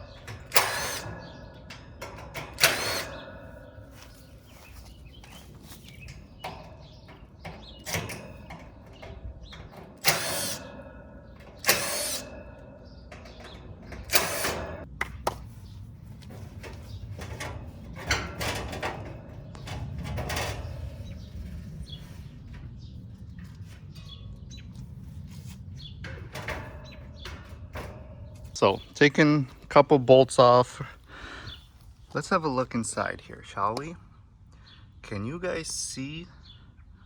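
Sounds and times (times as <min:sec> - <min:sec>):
small metal knocks: 0:00.0 - 0:29.8
sheet metal clanking and scraping: 0:00.0 - 0:31.6.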